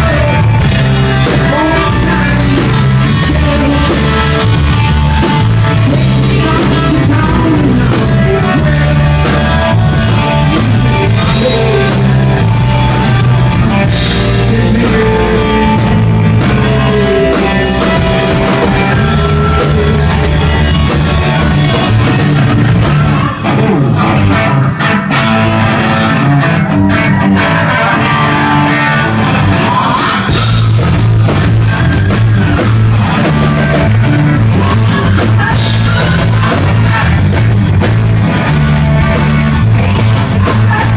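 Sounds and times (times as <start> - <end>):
person singing: 0.0 - 24.8, 25.9 - 40.9
drum kit: 0.0 - 26.3, 26.9 - 40.9
bass guitar: 0.0 - 40.9
electric guitar: 0.0 - 40.9.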